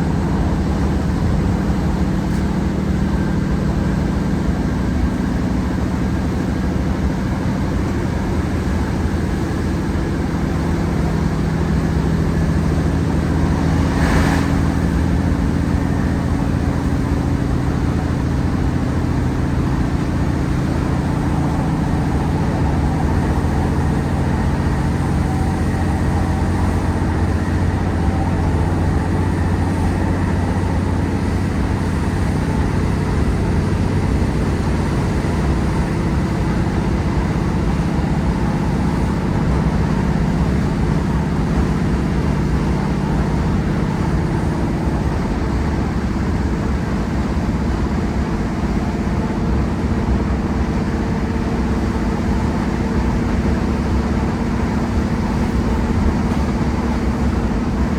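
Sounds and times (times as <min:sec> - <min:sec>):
train diesel engine working hard: 0:00.0 - 0:57.9.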